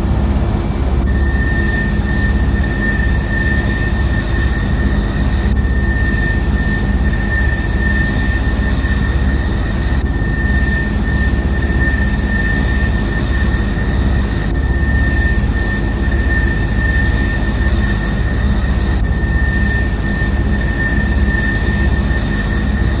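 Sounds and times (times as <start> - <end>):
aircraft engine and propeller drone: 0.0 - 23.0.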